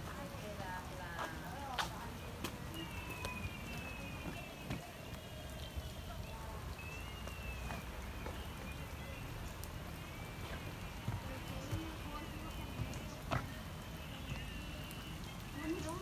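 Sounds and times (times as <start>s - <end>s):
light rain pattering: 0.0s - 16.0s
drips and taps: 0.1s - 16.0s.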